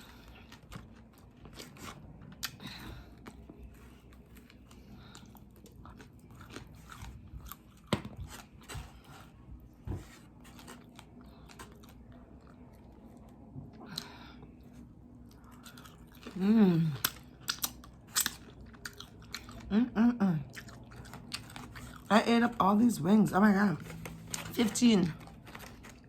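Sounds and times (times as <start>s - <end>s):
chewing crispy chicken wings: 0.0s - 9.4s, 10.5s - 22.5s.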